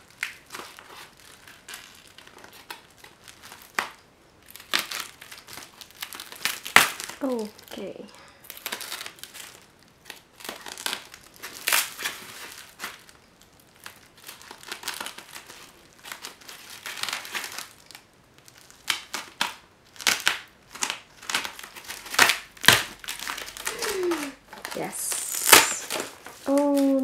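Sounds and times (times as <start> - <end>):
styrofoam scraping and squeaking: 0.1 - 7.3, 8.6 - 27.0.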